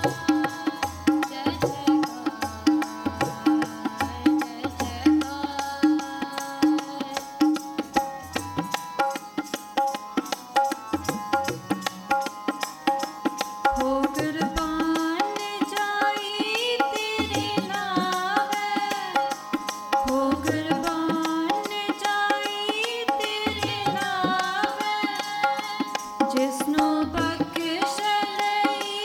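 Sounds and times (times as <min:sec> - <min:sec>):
woman singing: 0:00.0 - 0:08.4, 0:13.6 - 0:29.0
harmonium chords: 0:00.0 - 0:29.0
tabla strokes: 0:00.0 - 0:29.0.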